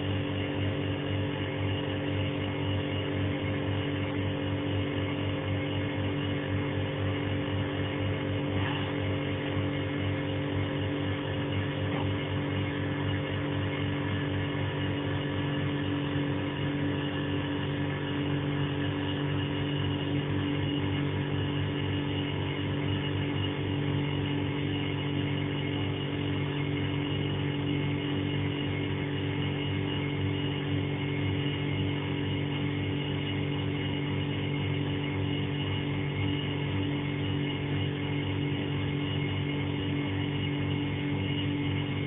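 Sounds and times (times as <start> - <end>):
refrigerator humming: 0.0 - 42.0.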